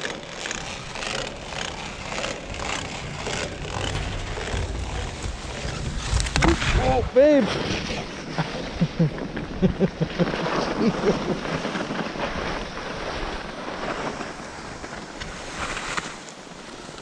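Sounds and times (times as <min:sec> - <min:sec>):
skis scraping over snow: 0:00.0 - 0:17.0
wind buffeting microphone: 0:00.4 - 0:15.7.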